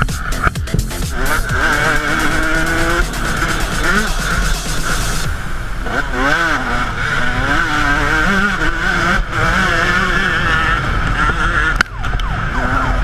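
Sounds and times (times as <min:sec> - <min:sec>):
two-stroke motocross engine revving: 0:00.0 - 0:13.0.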